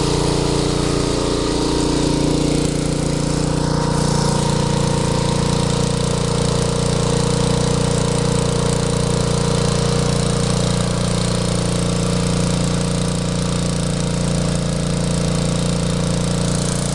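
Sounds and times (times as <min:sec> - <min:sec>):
small engine running steadily: 0:00.0 - 0:16.9.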